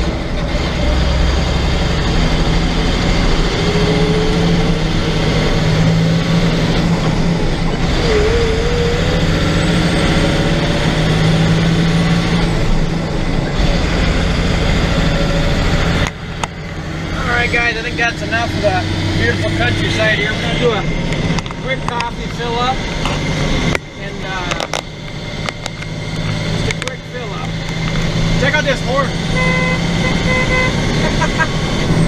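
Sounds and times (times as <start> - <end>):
road and tyre noise: 0.0 - 32.0
truck engine drone: 0.0 - 32.0.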